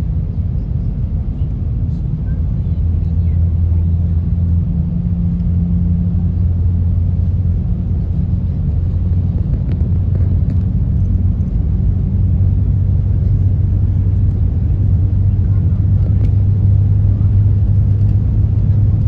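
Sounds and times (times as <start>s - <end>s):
train cabin rumble and hum: 0.0s - 19.0s.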